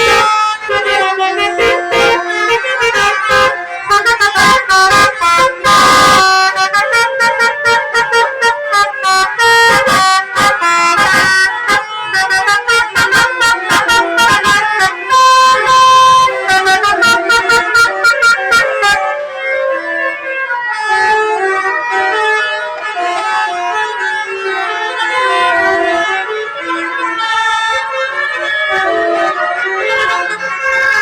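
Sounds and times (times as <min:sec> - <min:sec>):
multi-tone bus horns melody: 0:00.0 - 0:31.0.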